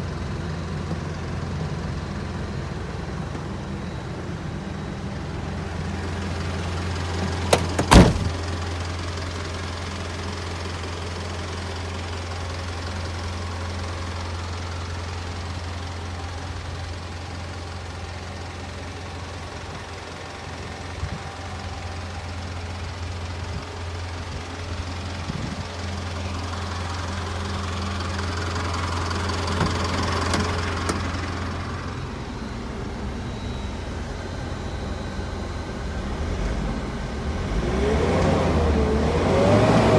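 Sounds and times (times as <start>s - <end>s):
truck engine idling: 0.0s - 39.6s.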